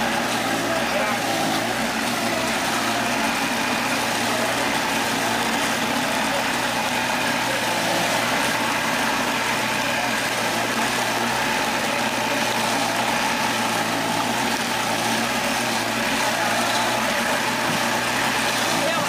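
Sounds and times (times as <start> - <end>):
grinding machine engine running: 0.0 - 19.0.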